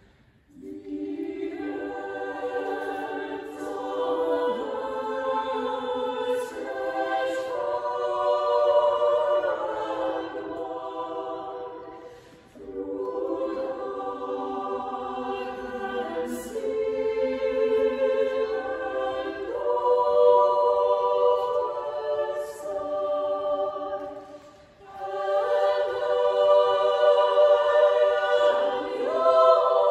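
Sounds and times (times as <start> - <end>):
choir of high voices singing: 0.0 - 29.9.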